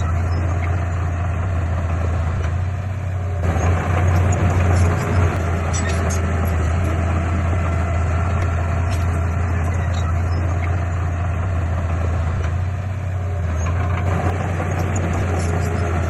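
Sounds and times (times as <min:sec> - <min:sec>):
heavy diesel engine droning: 0:00.0 - 0:16.0.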